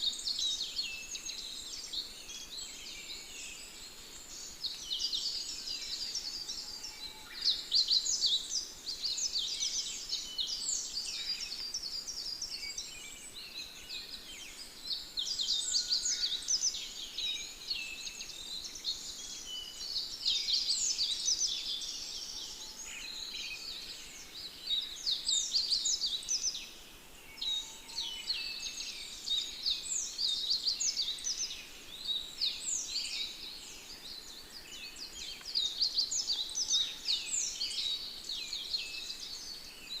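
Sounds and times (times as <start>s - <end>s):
birds chirping chorus: 0.0s - 40.0s.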